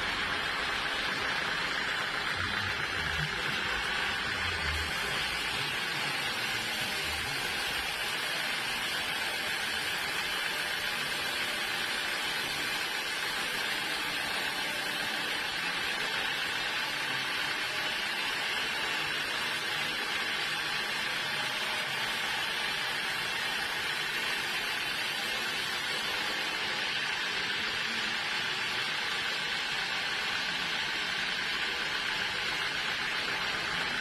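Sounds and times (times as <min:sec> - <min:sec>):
sawmill machinery hissing: 0:00.0 - 0:34.0.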